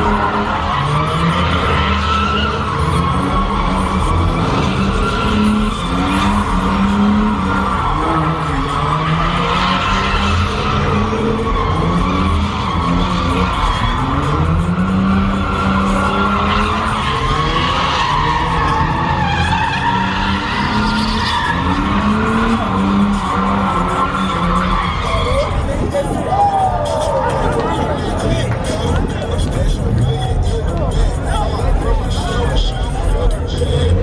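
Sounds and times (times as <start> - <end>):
car engine revving: 0.0 - 26.2, 26.9 - 34.0
tyres squealing: 0.0 - 29.4.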